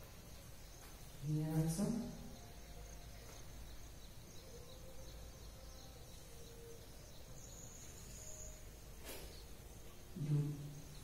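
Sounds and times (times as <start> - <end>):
faint chirps: 0.0 - 11.0.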